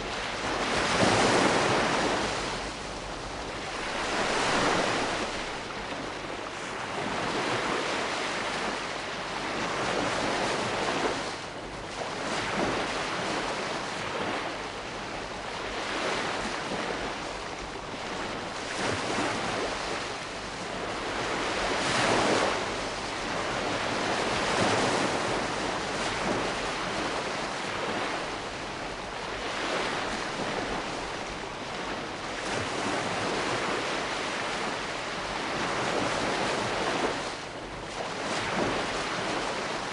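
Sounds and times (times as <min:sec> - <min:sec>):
small waves washing in: 0:00.0 - 0:39.9.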